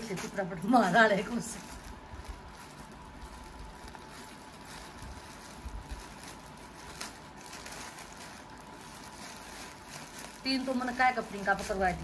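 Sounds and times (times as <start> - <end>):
package rustling: 0.0 - 12.0.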